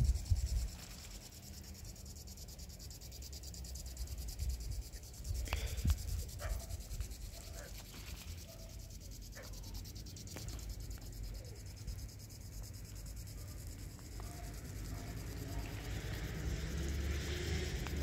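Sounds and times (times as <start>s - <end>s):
crickets pulsing: 0.0s - 18.0s.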